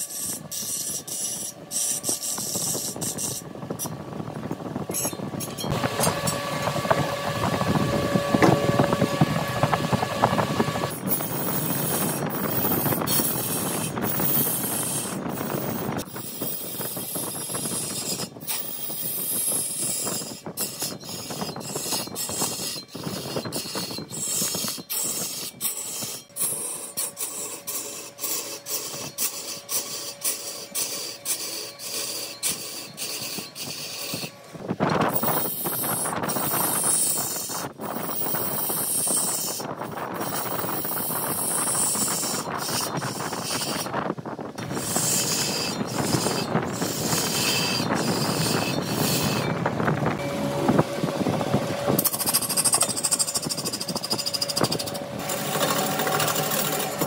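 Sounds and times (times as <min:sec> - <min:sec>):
lathe tool cutting spinning wood: 0:00.0 - 0:57.0.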